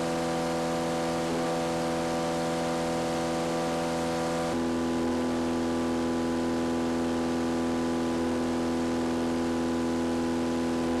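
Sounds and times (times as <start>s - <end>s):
racing engine running steadily: 0.0s - 11.0s.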